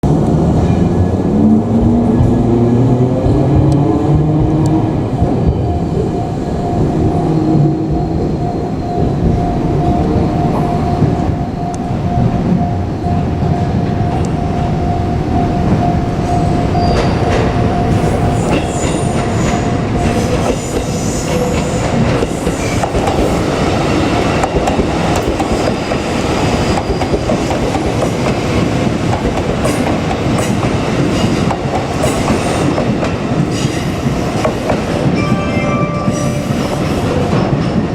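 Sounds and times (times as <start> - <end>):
electric train steady tone: 0.1 - 37.9.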